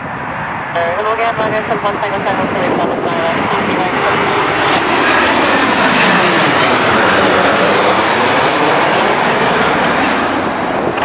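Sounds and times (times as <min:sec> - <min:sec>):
jet airliner passing close: 0:00.0 - 0:11.0.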